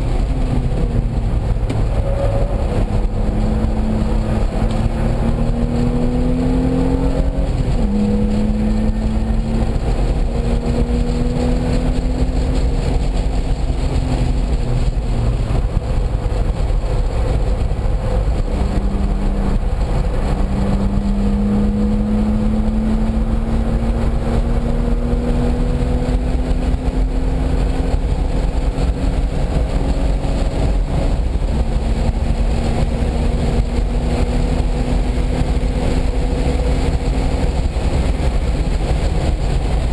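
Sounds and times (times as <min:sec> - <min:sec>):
car engine pulling hard: 0:00.0 - 0:39.9
road and wind noise: 0:00.0 - 0:39.9.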